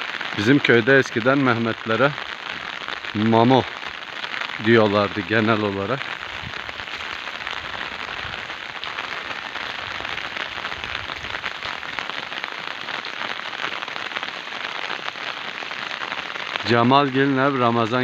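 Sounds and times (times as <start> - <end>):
steady rain patter: 0.0 - 18.0.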